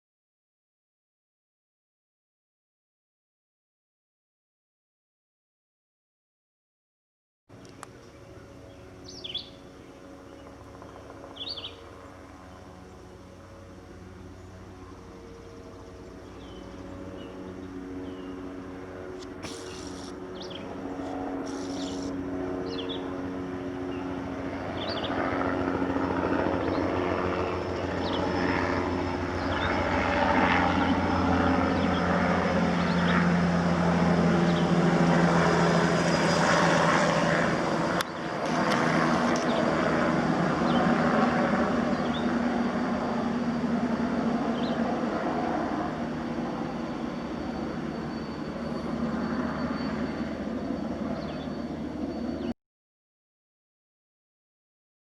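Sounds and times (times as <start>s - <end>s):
engine drone: 7.5s - 52.5s.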